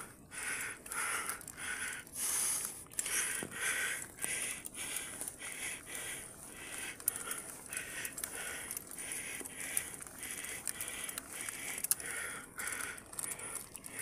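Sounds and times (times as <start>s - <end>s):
bicycle clicks and rattles: 0.0s - 14.0s
person breathing hard: 0.0s - 14.0s.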